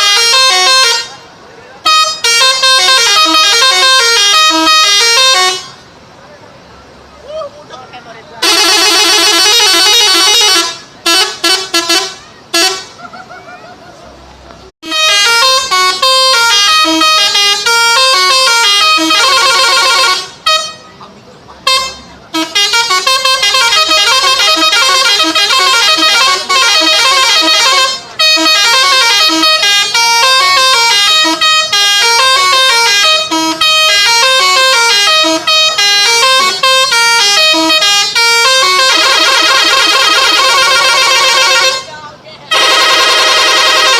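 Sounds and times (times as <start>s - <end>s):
multi-tone bus horn melody: 0.0s - 6.0s, 8.4s - 13.0s, 14.8s - 43.9s.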